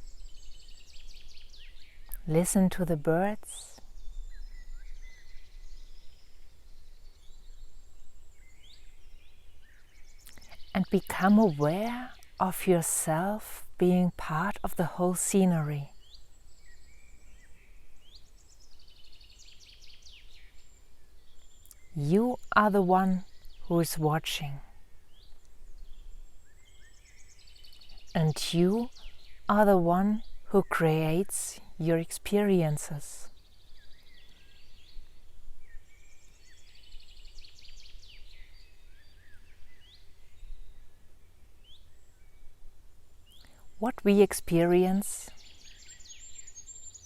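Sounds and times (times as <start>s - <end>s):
faint low outdoor background noise: 0.0s - 47.0s
songbirds singing: 0.0s - 47.0s.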